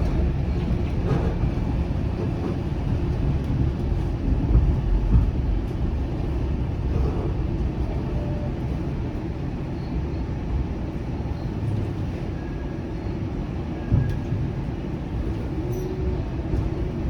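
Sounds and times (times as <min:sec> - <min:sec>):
streetcar low rumble: 0:00.0 - 0:17.0.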